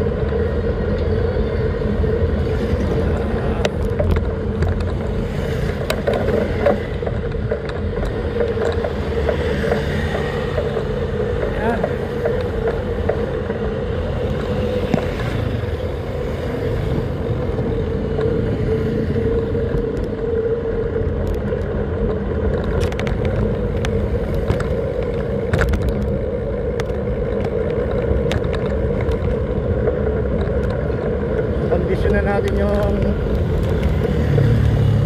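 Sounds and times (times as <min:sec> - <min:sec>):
constant hum: 0:00.0 - 0:35.0
road rumble: 0:00.0 - 0:35.0
sharp clicks and rattles: 0:00.0 - 0:35.0
wind: 0:00.0 - 0:35.0.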